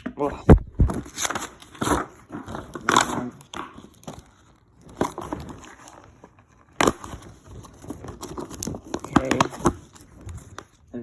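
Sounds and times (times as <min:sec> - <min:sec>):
packaging crinkling and rustling: 0:00.6 - 0:11.0.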